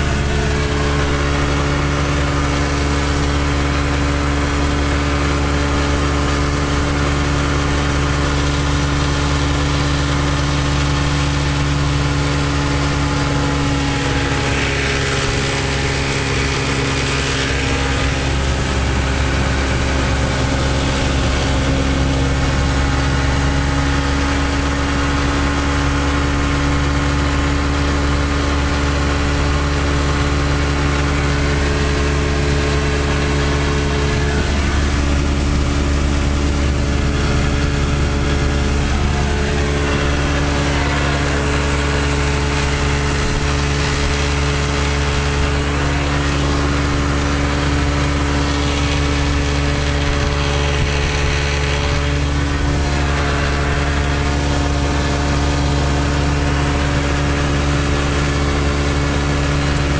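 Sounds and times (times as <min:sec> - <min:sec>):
hissing water rush: 0:00.0 - 0:59.9
outboard motor running: 0:00.0 - 0:59.9.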